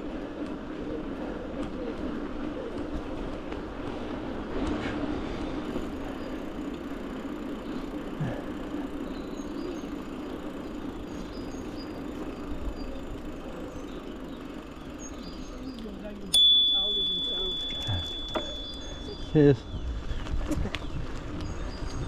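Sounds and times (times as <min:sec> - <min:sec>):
bike tyres humming: 0:00.0 - 0:22.0.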